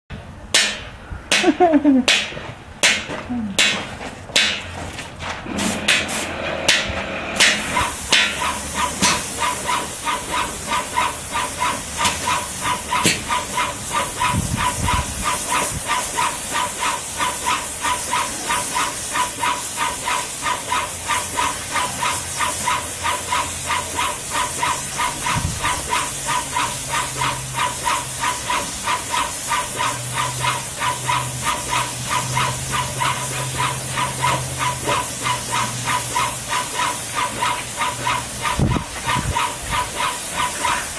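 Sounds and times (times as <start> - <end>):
paint sprayer hissing: 5.4 - 6.4, 7.4 - 40.9.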